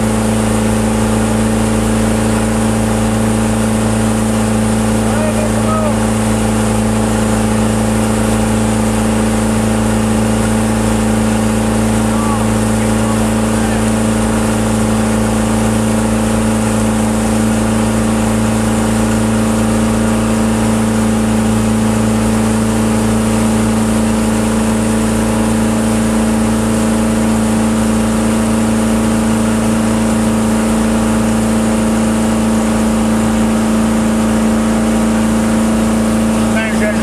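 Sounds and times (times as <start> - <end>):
churning wake rushing: 0.0 - 37.0
motorboat engine hum: 0.0 - 37.0.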